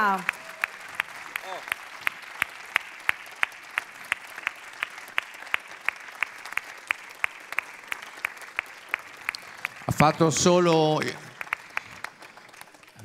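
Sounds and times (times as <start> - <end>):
people clapping: 0.0 - 13.0.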